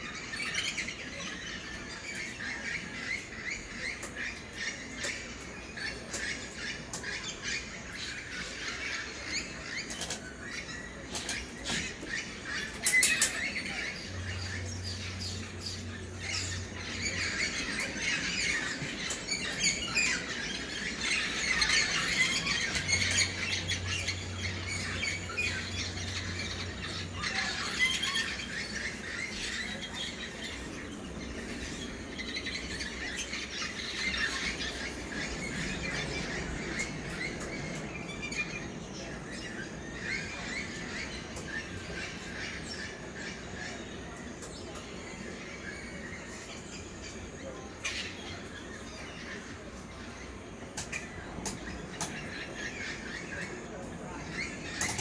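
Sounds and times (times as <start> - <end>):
many birds chirping and squawking: 0.0 - 55.0.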